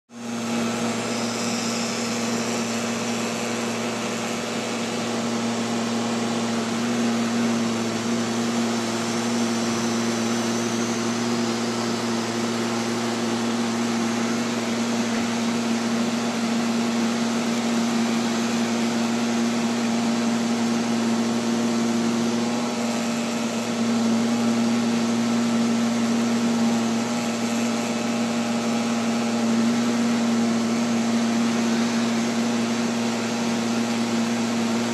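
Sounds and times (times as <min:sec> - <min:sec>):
robotic vacuum cleaner motor hum: 0:00.1 - 0:34.9.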